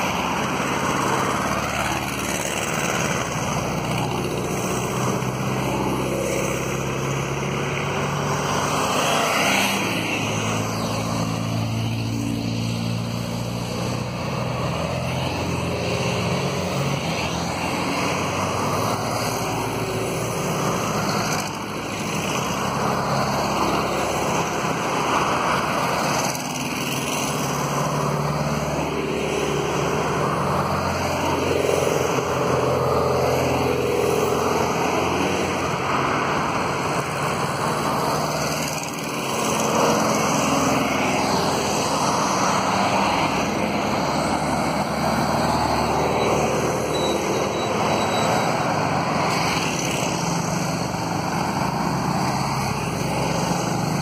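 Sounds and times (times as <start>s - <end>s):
vans passing with engines running: 0.0s - 54.0s.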